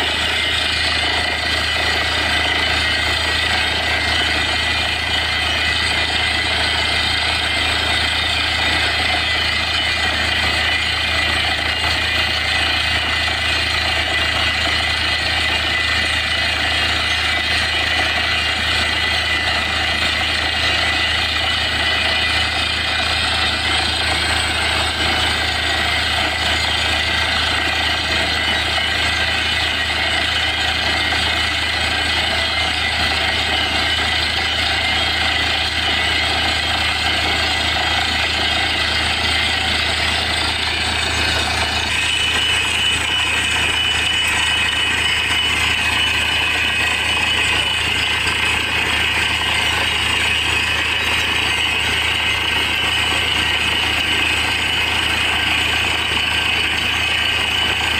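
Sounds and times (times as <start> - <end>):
drilling rig running: 0.0 - 57.9
steady high whine: 0.0 - 57.9.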